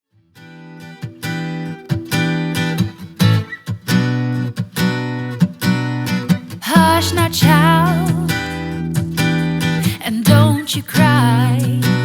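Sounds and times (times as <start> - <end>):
acoustic guitar strumming chords: 0.4 - 12.0.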